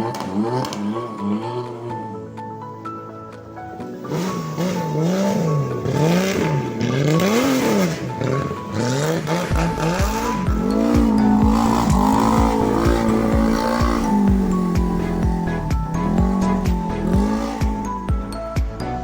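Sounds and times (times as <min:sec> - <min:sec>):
rally car engine revving: 0:00.0 - 0:02.2, 0:04.0 - 0:19.0
background music with beat: 0:00.0 - 0:19.0.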